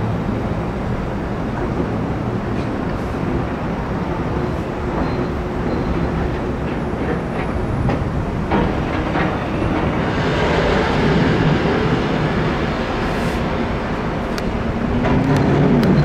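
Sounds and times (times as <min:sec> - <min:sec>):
city traffic: 0:00.0 - 0:16.0.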